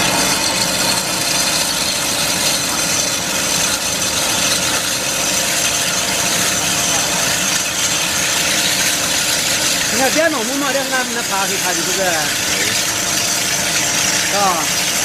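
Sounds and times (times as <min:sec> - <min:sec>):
band saw cutting metal: 0:00.0 - 0:15.0
machine hum: 0:00.0 - 0:15.0.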